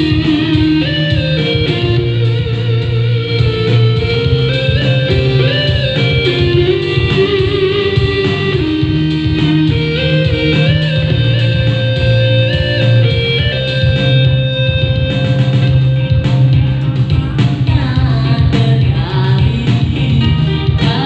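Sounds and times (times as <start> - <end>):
electronic keyboard music: 0.0 - 21.0.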